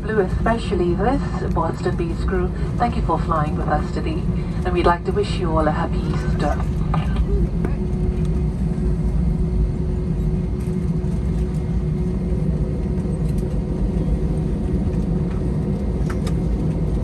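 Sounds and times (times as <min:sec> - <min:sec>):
airliner cabin engine rumble: 0:00.0 - 0:17.0
faint steady hum: 0:00.0 - 0:17.0.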